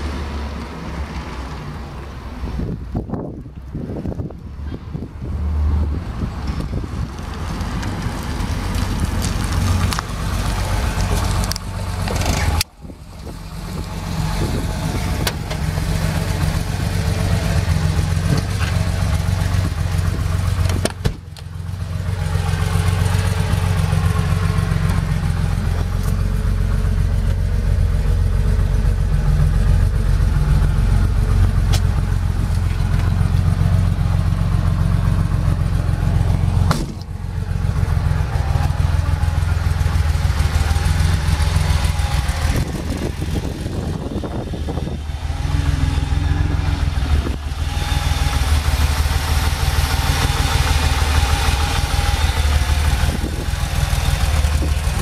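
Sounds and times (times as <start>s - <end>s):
car engine idling: 5.9s - 55.0s.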